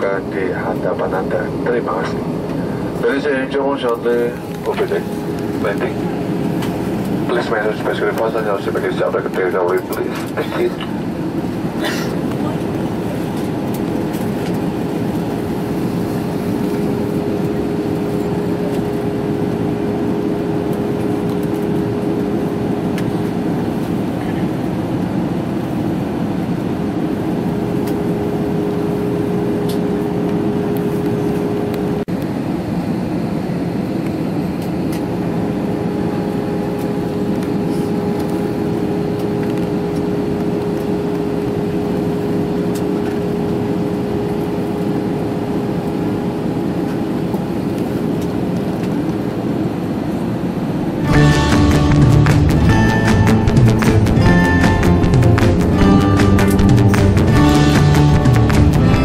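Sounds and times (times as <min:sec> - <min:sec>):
jet engines in cabin: 0:00.0 - 0:59.0
steady hum tone: 0:00.0 - 0:59.0.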